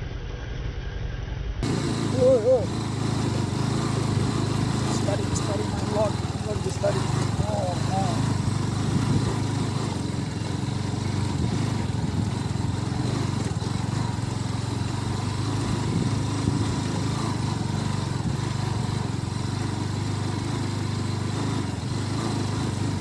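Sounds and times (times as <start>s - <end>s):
motorcycle engine running: 1.6s - 23.0s.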